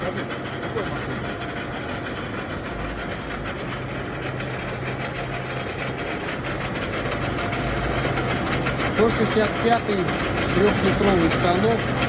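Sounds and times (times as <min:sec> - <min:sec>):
lathe running with hum: 0:00.0 - 0:12.0.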